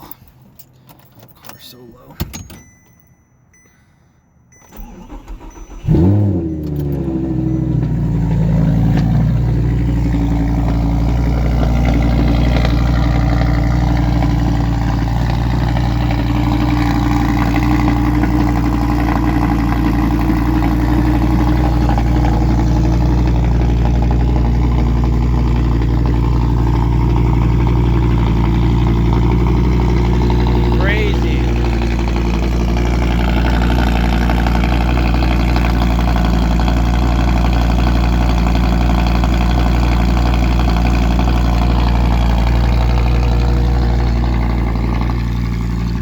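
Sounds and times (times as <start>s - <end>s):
car engine revving and idling: 4.7s - 46.0s.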